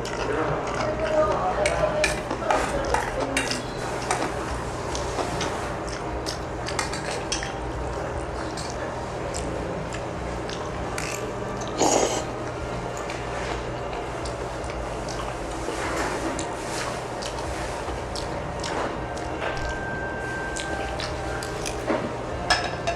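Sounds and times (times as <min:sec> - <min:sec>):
loud noisy sound: 0:00.0 - 0:22.9
low steady hum: 0:00.0 - 0:22.9
utensils clicking against dishes: 0:00.0 - 0:22.9.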